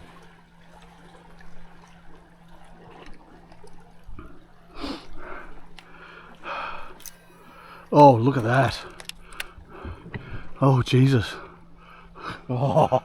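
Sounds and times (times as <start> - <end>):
faint steady hum: 0.0 - 13.0
water lapping against boat hull: 0.0 - 13.0.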